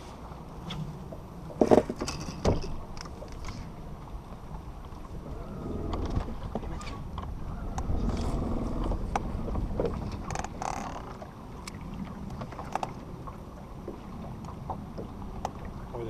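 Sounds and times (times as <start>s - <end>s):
water around boat: 0.0s - 16.0s
wind: 0.0s - 16.0s.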